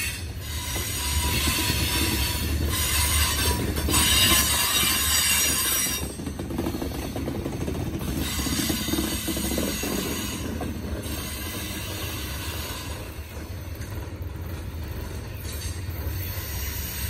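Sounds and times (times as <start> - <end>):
freight train rolling on rails: 0.0 - 17.0.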